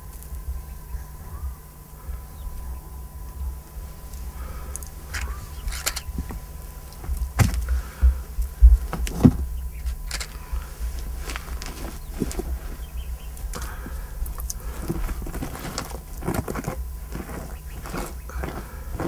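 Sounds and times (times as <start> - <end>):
burning twigs crackling: 0.0 - 19.0
steady low rumble: 0.0 - 19.0.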